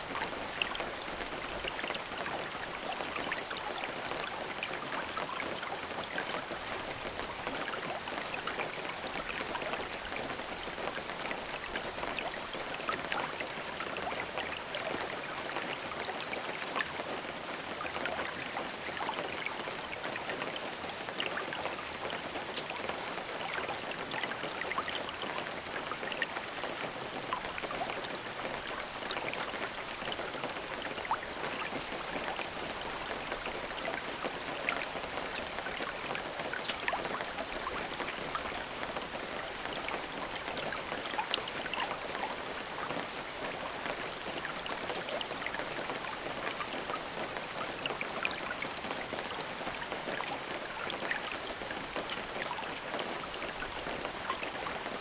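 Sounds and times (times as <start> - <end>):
raindrops ticking on surface: 0.0 - 55.0
steady rain hissing: 0.0 - 55.0.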